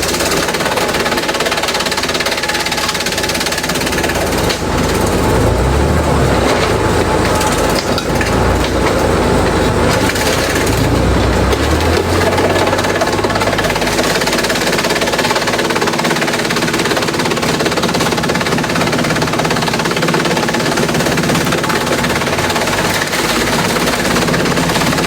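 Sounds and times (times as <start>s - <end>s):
shredder engine under load: 0.0s - 25.0s
wood splintering and cracking: 0.0s - 25.0s.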